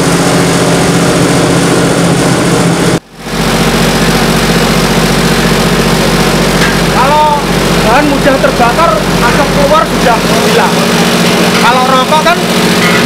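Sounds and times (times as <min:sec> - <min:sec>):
blower motor droning: 0:00.0 - 0:13.0.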